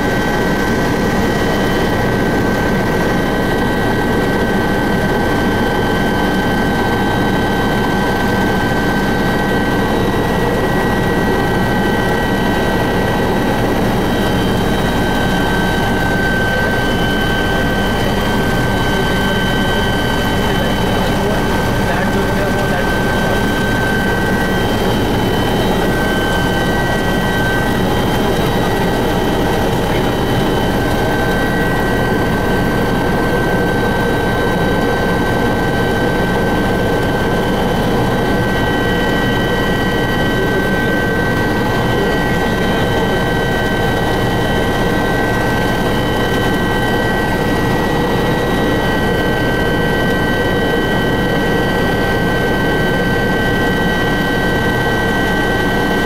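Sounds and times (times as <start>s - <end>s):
constant high whine: 0.0s - 56.0s
helicopter engine and rotor noise: 0.0s - 56.0s.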